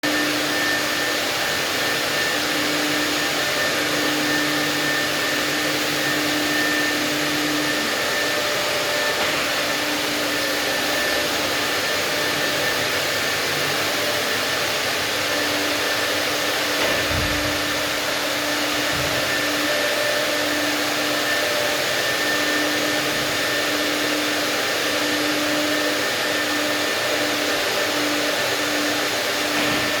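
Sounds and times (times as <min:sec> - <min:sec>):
vacuum cleaner motor whining: 0:00.0 - 0:30.0.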